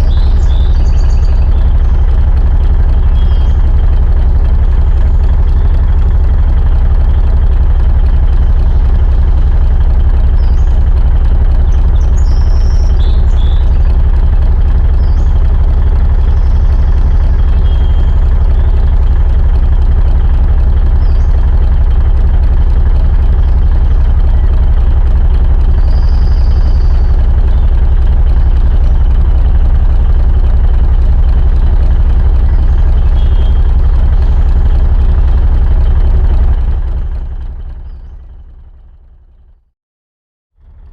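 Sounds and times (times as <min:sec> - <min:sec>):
diesel truck engine idling: 0:00.0 - 0:39.7, 0:40.6 - 0:40.9.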